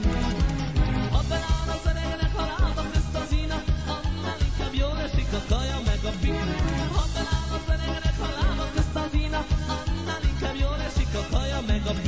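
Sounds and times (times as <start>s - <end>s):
upbeat music with fast beat: 0.0s - 12.0s.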